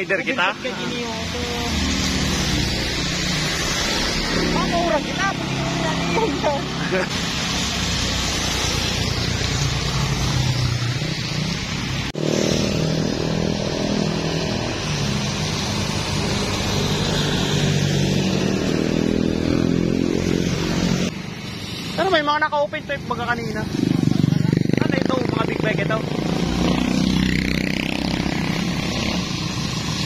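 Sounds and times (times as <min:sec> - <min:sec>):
motorcycle engines passing: 0:00.0 - 0:30.0
wet tyres hissing: 0:00.0 - 0:30.0.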